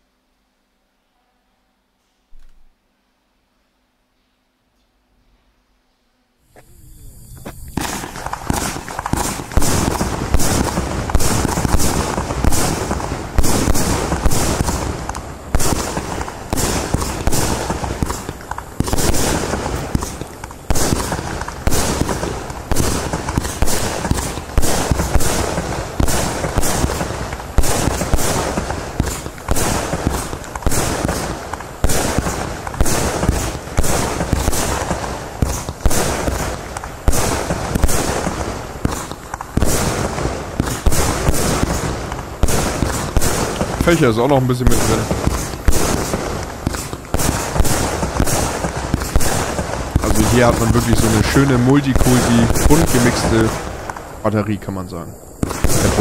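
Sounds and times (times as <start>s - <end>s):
firework shots and shell bursts: 7.4s - 54.5s, 55.1s - 56.0s.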